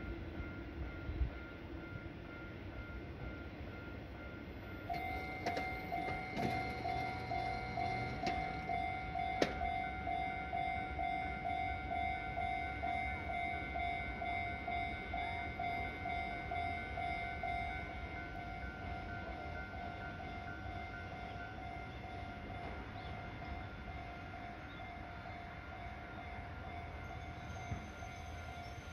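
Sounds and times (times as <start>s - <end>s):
level crossing warning bell: 0.0s - 28.9s.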